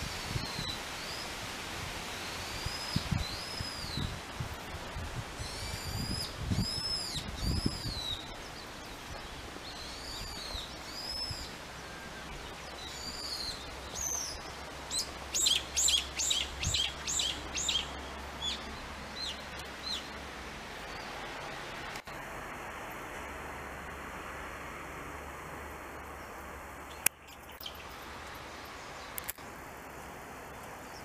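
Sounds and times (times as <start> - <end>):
songbird singing: 0.0 - 1.4, 2.0 - 22.3, 25.7 - 31.0.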